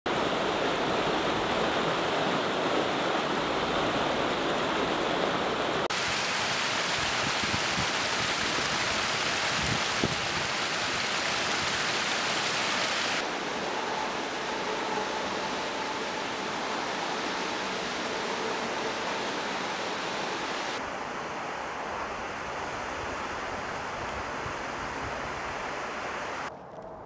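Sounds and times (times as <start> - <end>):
waterfall rushing water: 0.1 - 26.5.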